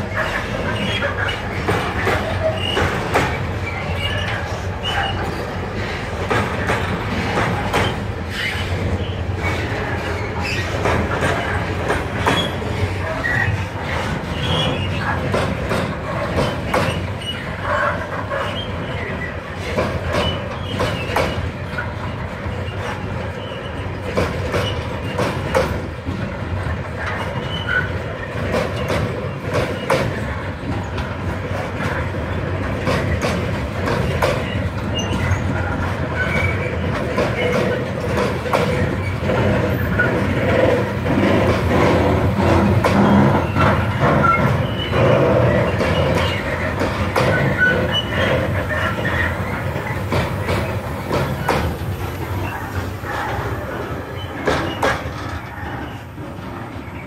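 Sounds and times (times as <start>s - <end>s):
train wheels squeaking: 0.0s - 25.9s, 27.0s - 31.0s, 31.8s - 57.0s
train wheels knocking over rail joints: 0.0s - 57.0s.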